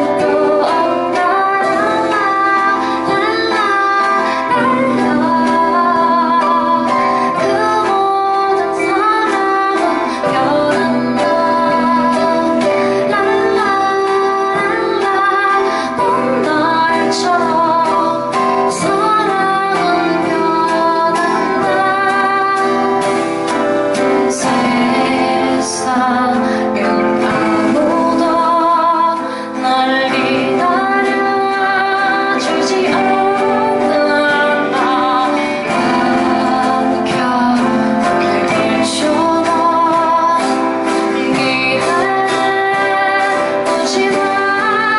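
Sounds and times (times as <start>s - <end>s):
acoustic guitar: 0.0s - 44.9s
drums: 0.0s - 44.9s
keyboard: 0.0s - 44.9s
woman singing with vibrato: 0.0s - 44.9s.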